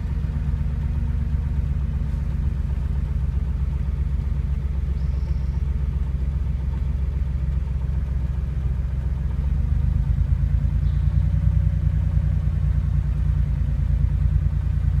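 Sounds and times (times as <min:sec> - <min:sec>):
car engine running: 0:00.0 - 0:15.0
engine knock: 0:00.0 - 0:15.0.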